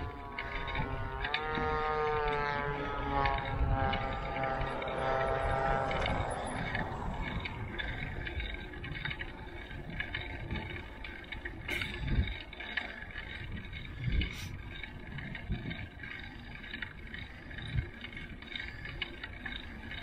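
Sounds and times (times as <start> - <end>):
bike tyres rolling on concrete: 0.0 - 20.0
wind buffeting microphone: 0.0 - 20.0.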